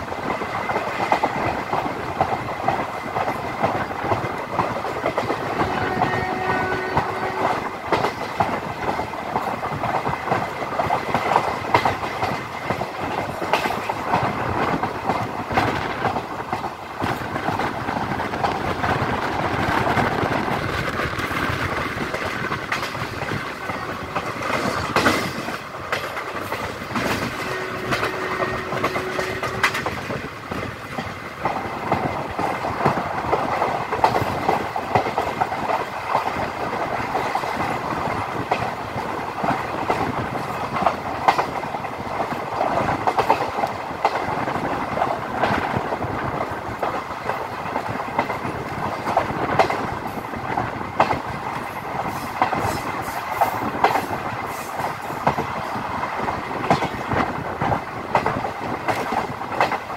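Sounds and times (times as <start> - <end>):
train rumbling: 0.0 - 59.9
wheels clicking over rail joints: 0.0 - 59.9.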